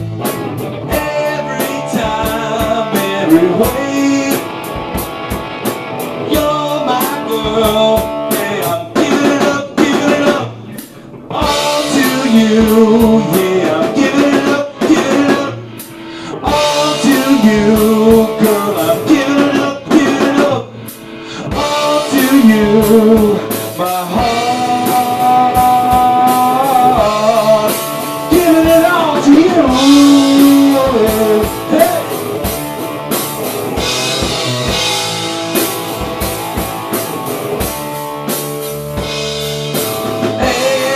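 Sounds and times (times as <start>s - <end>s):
drum kit: 0.0s - 40.9s
electric guitar: 0.0s - 40.9s
live rock band: 0.0s - 40.9s.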